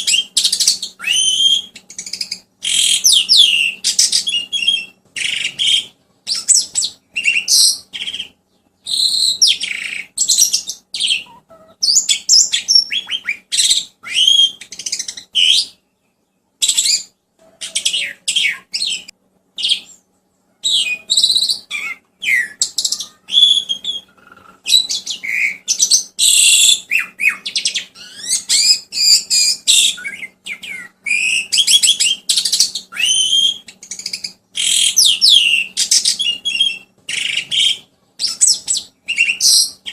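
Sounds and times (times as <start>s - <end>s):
songbird chirping and whistling: 0.0s - 39.9s.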